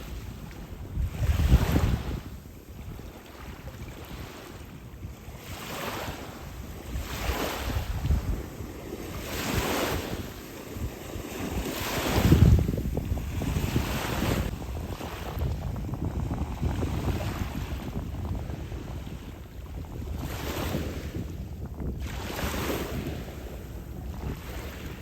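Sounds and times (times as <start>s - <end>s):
small waves washing ashore: 0.0s - 25.0s
wind buffeting microphone: 0.0s - 25.0s.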